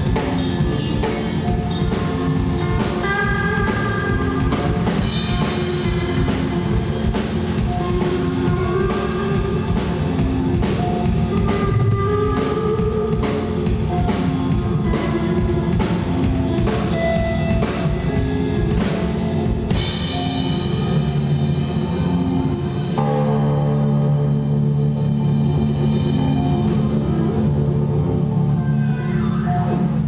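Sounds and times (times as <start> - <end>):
drum kit beat: 0.0 - 28.2
electric guitar riff: 0.0 - 30.0
ringing guitar chord: 0.1 - 29.2.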